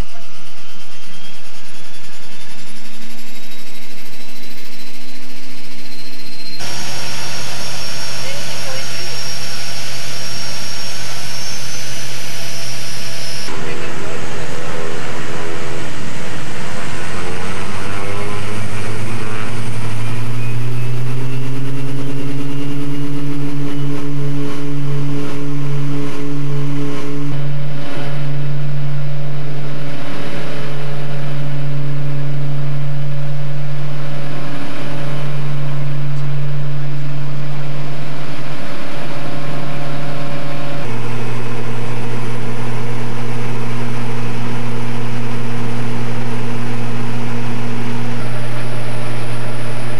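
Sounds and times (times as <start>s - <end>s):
propeller engine drone in cabin: 0.0s - 49.9s.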